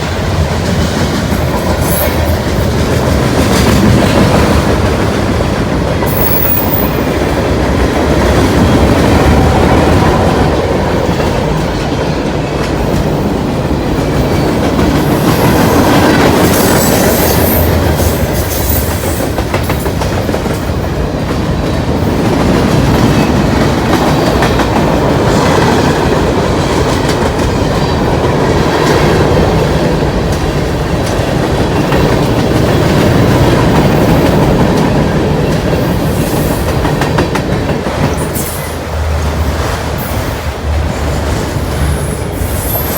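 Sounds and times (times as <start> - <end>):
freight train rolling past: 0.0 - 42.9
steel wheels clattering on rails: 0.0 - 42.9.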